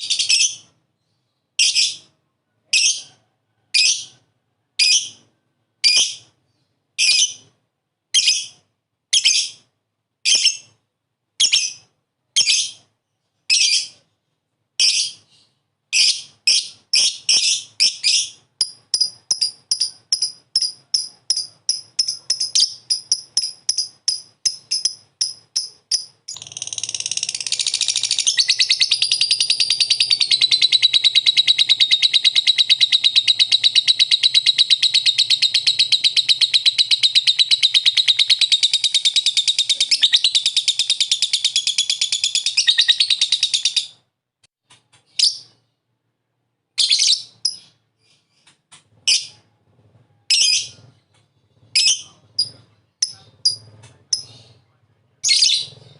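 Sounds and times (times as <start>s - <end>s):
lovebird chirping and trilling: 0.0s - 2.1s, 2.7s - 3.1s, 3.8s - 4.2s, 4.8s - 7.5s, 8.2s - 10.8s, 11.4s - 12.9s, 13.5s - 14.1s, 14.8s - 44.0s, 45.1s - 45.6s, 46.8s - 48.4s, 49.0s - 49.5s, 50.3s - 54.6s, 55.2s - 55.9s.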